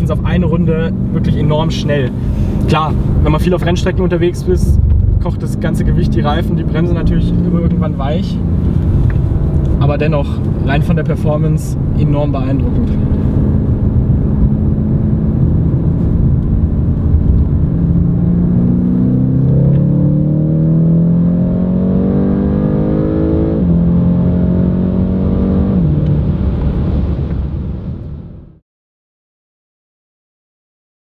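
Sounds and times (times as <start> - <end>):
car engine accelerating: 0.0 - 28.4.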